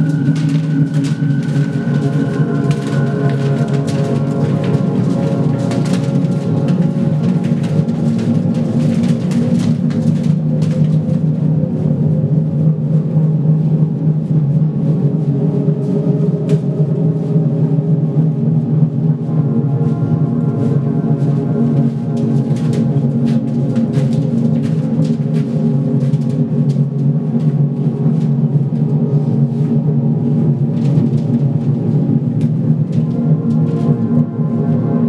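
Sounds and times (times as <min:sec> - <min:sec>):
low drone music: 0:00.0 - 0:35.0.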